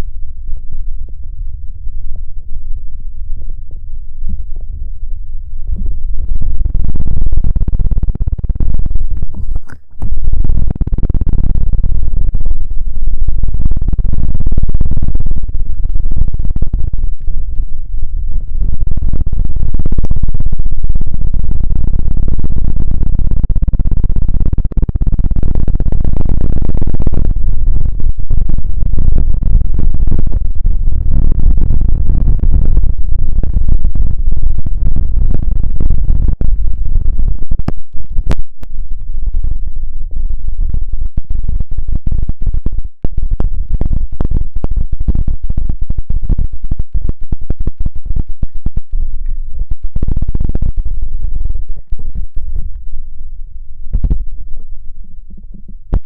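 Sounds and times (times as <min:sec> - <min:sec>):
low rumble: 0:00.0 - 0:56.0
dense crackling: 0:04.3 - 0:56.0.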